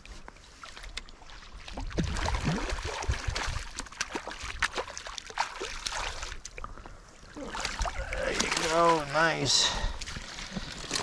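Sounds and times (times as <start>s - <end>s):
creek water splashing and trickling: 0.0s - 11.0s.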